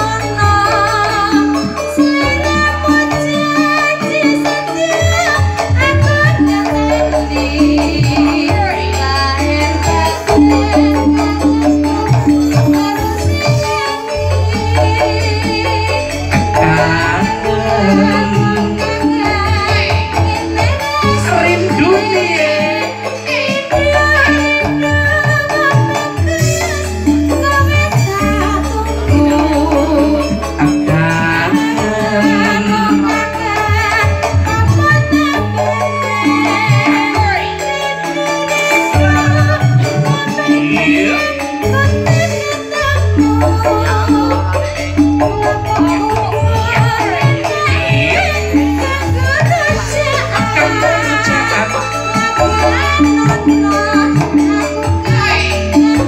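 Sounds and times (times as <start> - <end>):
amplified band with bass and percussion: 0.0 - 56.0
woman singing into a microphone: 0.0 - 56.0.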